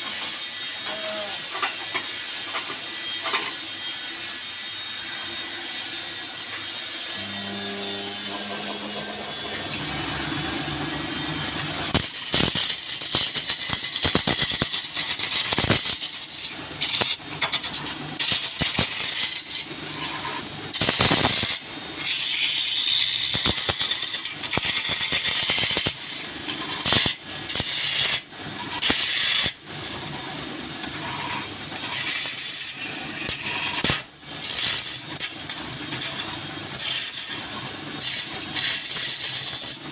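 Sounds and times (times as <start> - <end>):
turning tool hissing on wood: 0.0 - 39.9
wood lathe running: 0.1 - 35.9.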